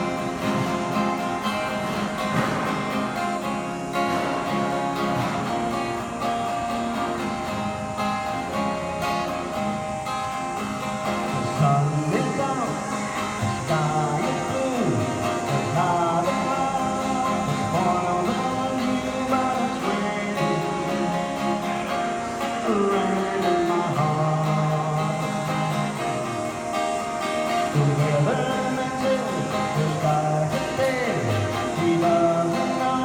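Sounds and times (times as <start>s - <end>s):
guitar melody with bending notes: 0.0s - 33.0s
strummed acoustic guitar chords: 0.0s - 33.0s.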